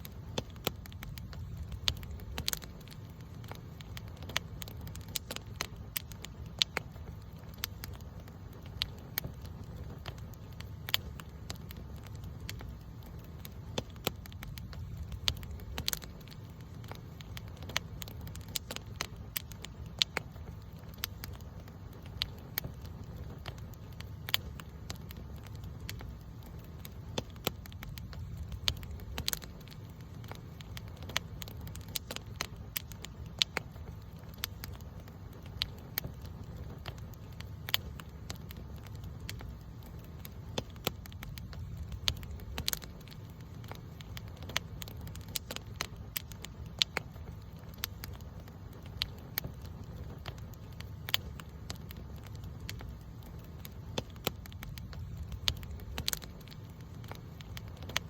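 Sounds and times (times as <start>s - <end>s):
wood campfire crackling: 0.0s - 58.0s.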